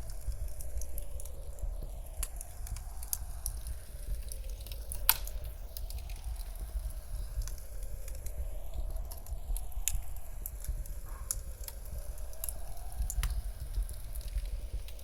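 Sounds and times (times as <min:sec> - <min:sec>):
blizzard wind howling: 0:00.0 - 0:15.0
wood fire crackling and popping: 0:00.0 - 0:15.0.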